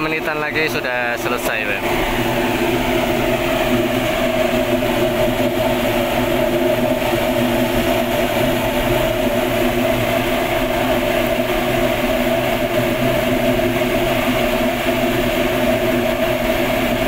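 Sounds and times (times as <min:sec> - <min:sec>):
burner flame roaring: 0:00.0 - 0:17.0
constant hum: 0:00.0 - 0:17.0.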